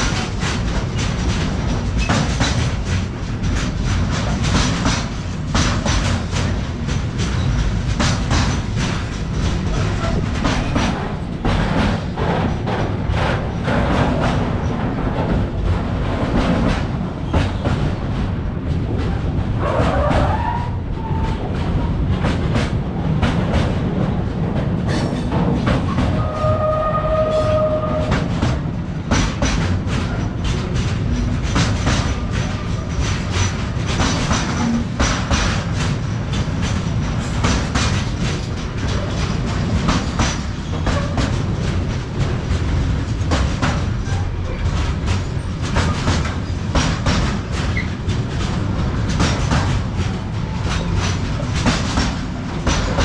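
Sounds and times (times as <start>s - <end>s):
train low rumble: 0.0s - 53.0s
wagon wheels clacking on rails: 0.0s - 53.0s.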